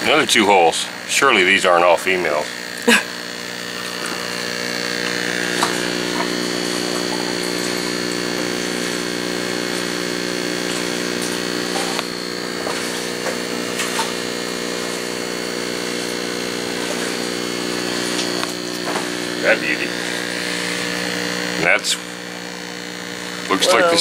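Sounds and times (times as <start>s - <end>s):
electric motor humming: 0.0s - 24.0s.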